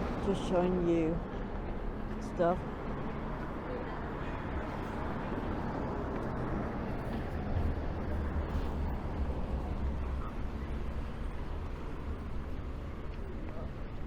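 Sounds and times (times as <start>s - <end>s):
low rumble of street traffic: 0.0s - 14.0s.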